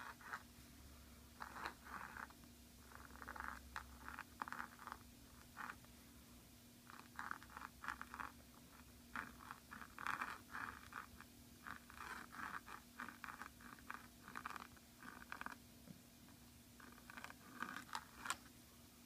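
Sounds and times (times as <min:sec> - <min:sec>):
pen nib scratching paper: 0:00.0 - 0:00.4, 0:01.4 - 0:05.8, 0:06.8 - 0:15.6, 0:16.8 - 0:18.4.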